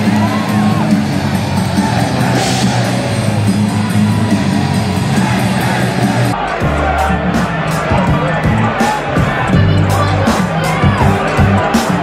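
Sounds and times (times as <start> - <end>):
crowd cheering and yelling: 0.0 - 12.0
rock music over loudspeakers: 0.0 - 12.0.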